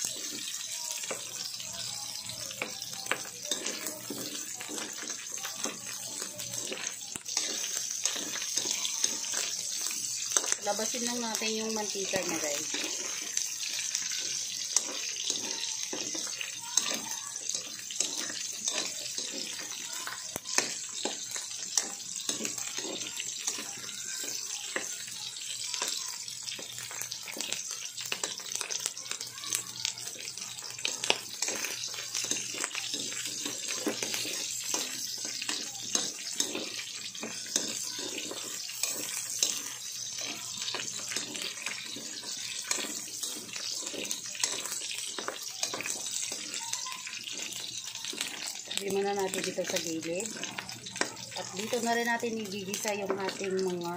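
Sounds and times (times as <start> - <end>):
pork sizzling in a wok: 0.0 - 53.9
metal spatula scraping a pan: 3.0 - 29.2, 30.1 - 53.4.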